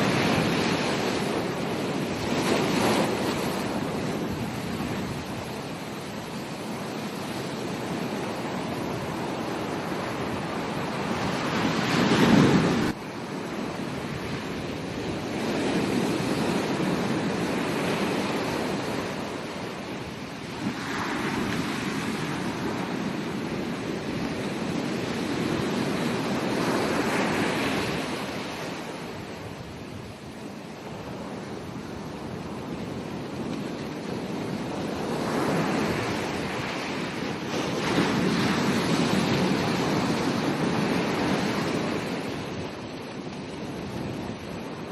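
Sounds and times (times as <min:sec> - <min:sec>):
ocean surf breaking on beach: 0:00.0 - 0:44.9.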